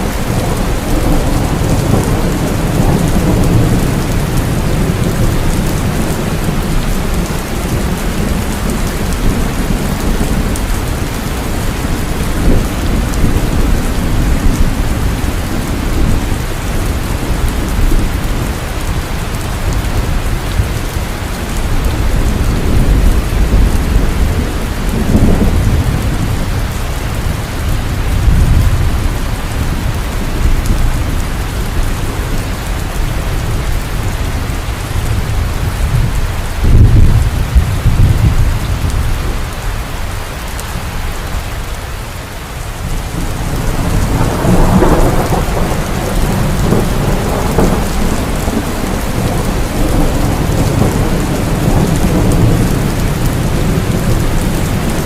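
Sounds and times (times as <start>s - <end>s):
deep rolling thunder: 0.0s - 39.6s, 42.8s - 55.0s
heavy rain: 0.0s - 55.0s.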